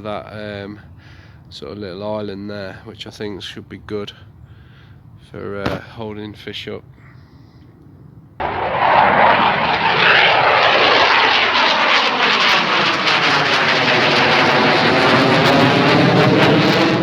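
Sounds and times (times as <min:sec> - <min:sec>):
aircraft flying overhead: 0:00.0 - 0:17.0.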